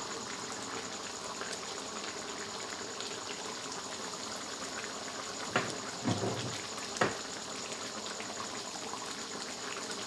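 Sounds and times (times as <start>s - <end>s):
curry simmering and bubbling: 0.0s - 10.0s.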